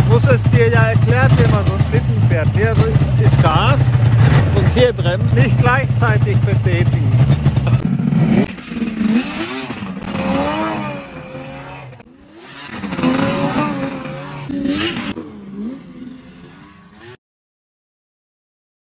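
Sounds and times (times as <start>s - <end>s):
snowmobile engine revving: 0.0s - 17.2s.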